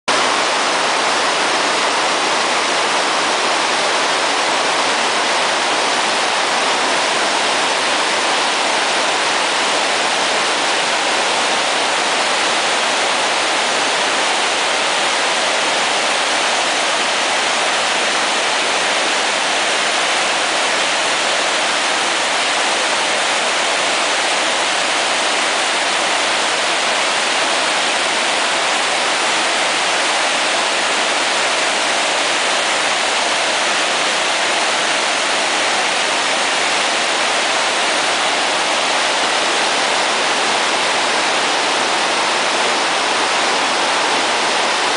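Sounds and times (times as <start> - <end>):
waterfall rushing: 0.1 - 44.9.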